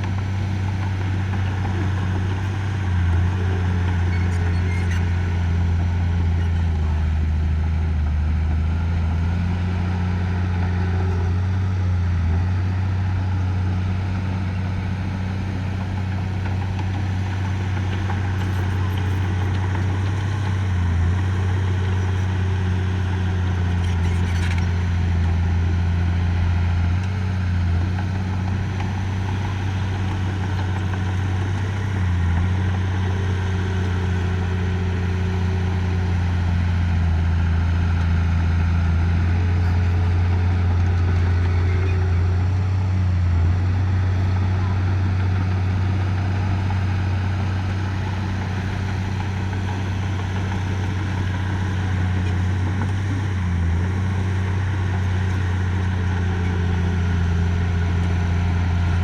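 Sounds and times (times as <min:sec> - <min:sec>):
heavy machinery engine running: 0:00.0 - 0:59.0.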